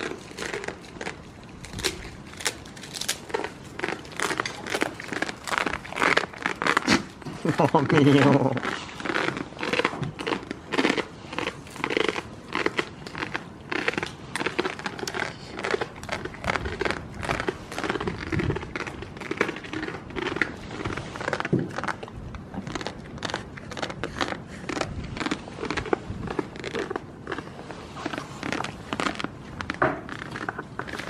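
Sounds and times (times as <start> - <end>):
goats munching hay: 0.0 - 31.0.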